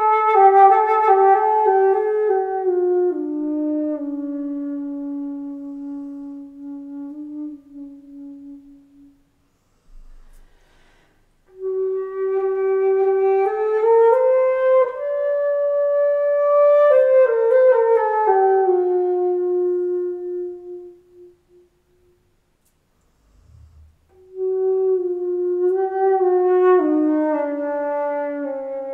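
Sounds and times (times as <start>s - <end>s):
solo flute: 0.0s - 9.4s, 11.5s - 22.3s, 24.1s - 28.9s.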